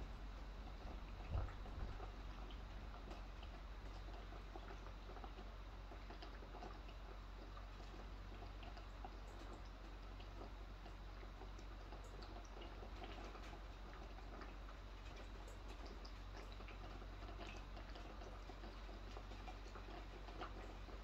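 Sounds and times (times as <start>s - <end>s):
low steady hum: 0.0s - 21.0s
raindrops ticking: 0.0s - 21.0s.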